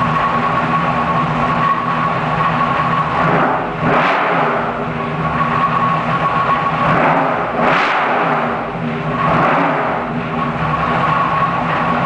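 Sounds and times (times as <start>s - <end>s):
engine revving through open headers: 0.0s - 12.0s.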